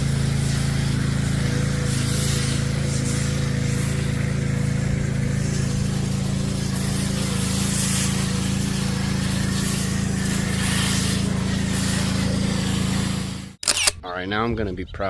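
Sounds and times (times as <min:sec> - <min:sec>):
pressure washer engine running: 0:00.0 - 0:14.0.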